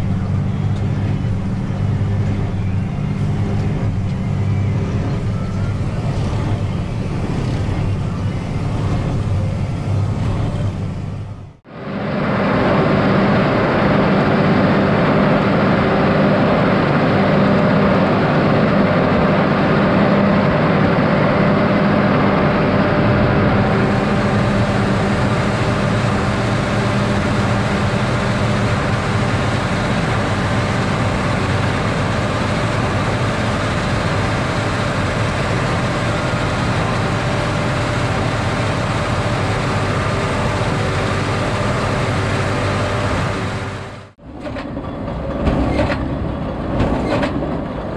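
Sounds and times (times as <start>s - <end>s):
baler working: 0.0s - 11.6s, 12.3s - 47.9s
tractor engine under load: 0.0s - 47.9s.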